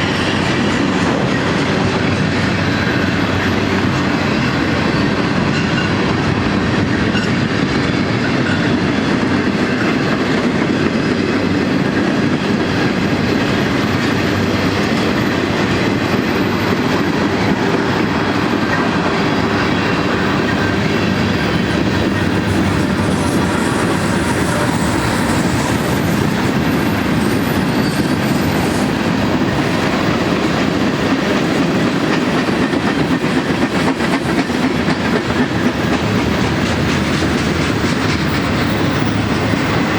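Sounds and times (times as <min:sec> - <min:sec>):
wheels clacking over rail joints: 0:05.2 - 0:39.9.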